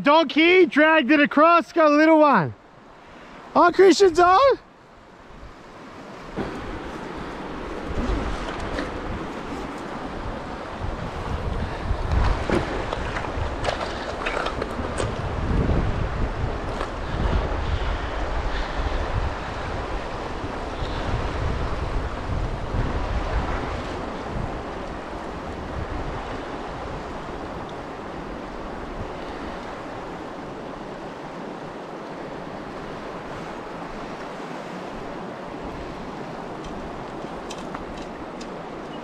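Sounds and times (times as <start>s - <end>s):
wind buffeting microphone: 5.0s - 39.0s.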